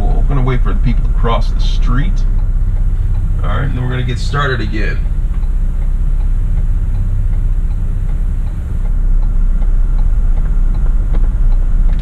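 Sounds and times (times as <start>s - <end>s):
faint regular ticking: 0.0s - 12.0s
van engine idling: 0.0s - 12.0s.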